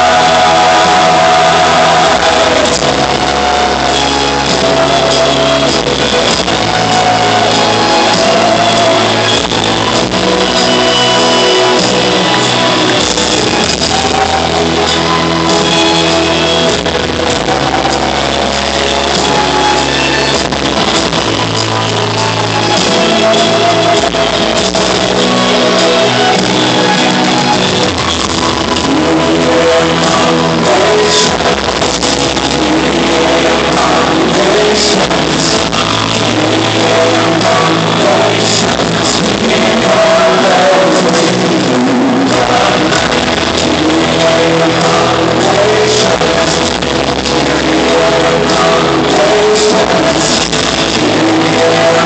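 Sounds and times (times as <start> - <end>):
live rock band music: 0.0 - 52.0
person singing: 0.0 - 52.0.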